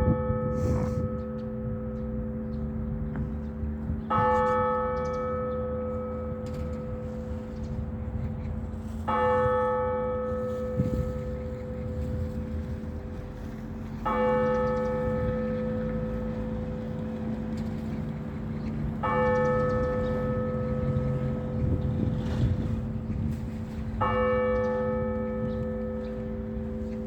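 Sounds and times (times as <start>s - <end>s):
church bell ringing: 0.0s - 27.0s.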